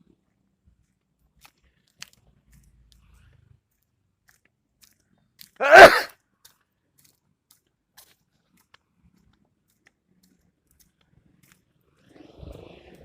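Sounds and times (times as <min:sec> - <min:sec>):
chewing and crunching food: 0:00.1 - 0:11.7.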